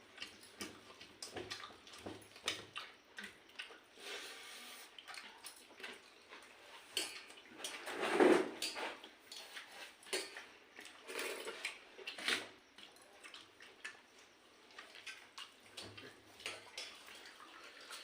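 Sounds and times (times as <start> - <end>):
wet eating sounds: 0.0 - 7.8, 9.0 - 18.0.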